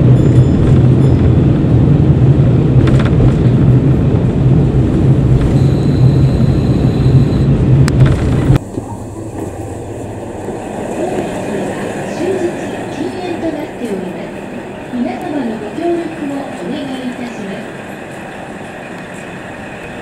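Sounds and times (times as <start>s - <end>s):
rail running noise: 0.0s - 20.0s
railcar engine hum: 0.0s - 20.0s.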